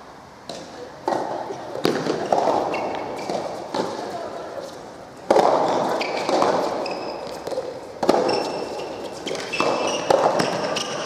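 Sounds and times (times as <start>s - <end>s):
ball bouncing on court: 0.5s - 4.1s, 5.3s - 11.0s
tennis ball struck by rackets: 0.5s - 4.2s, 5.3s - 11.0s
shoes squeaking on court: 1.4s - 11.0s.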